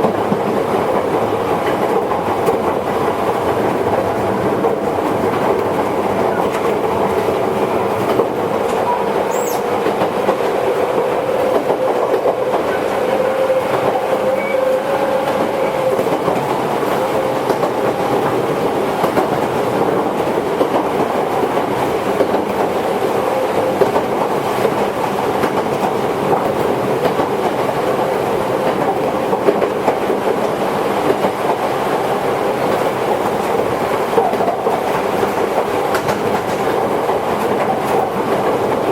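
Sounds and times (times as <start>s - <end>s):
train hum: 0.0s - 38.9s
train wheels rumbling on rail: 0.0s - 38.9s.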